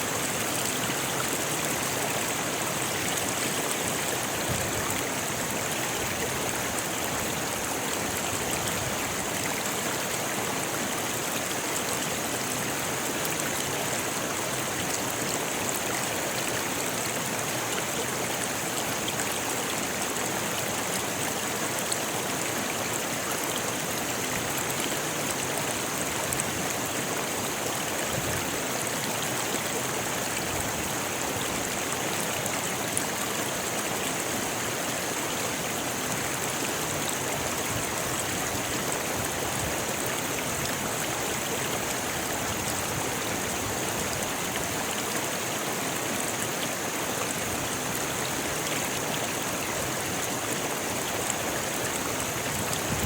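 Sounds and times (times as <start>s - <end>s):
river rushing over stones: 0.0s - 53.0s.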